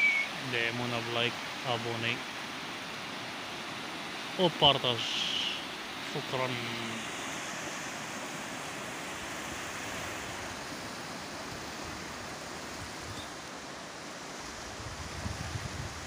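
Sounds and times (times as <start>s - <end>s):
ocean surf: 0.0s - 16.0s.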